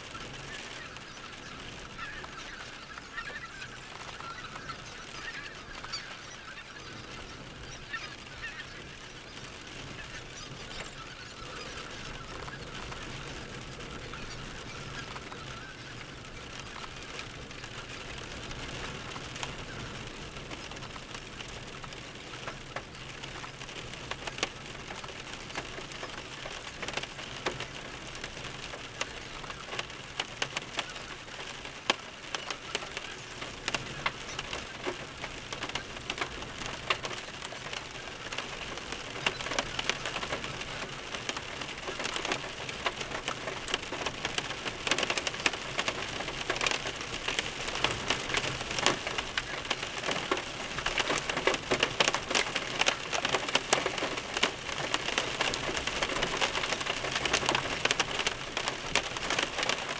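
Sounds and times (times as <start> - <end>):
distant geese flock calling: 0.0 - 59.9.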